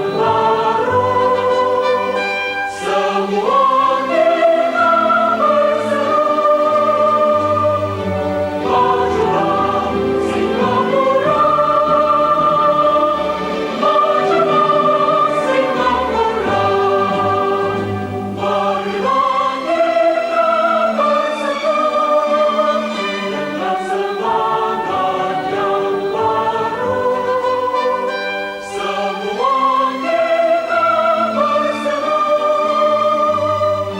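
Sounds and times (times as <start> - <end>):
choir singing held notes: 0.0 - 33.9.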